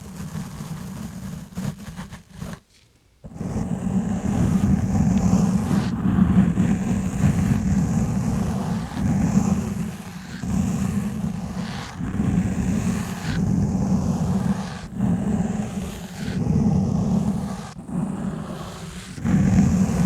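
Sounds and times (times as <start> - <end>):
gloves rubbing on microphone: 0.0 - 20.0.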